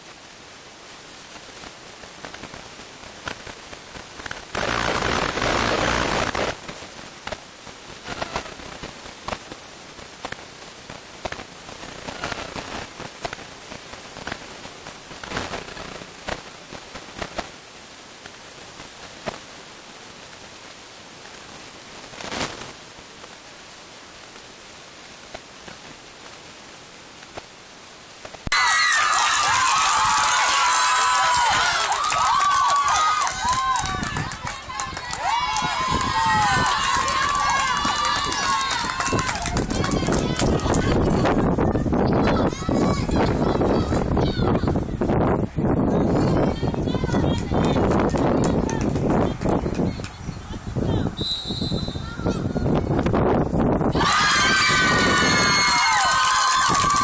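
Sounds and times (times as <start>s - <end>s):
outdoor hiss: 0.0s - 48.2s, 49.0s - 57.0s
rush of noise: 0.0s - 51.2s.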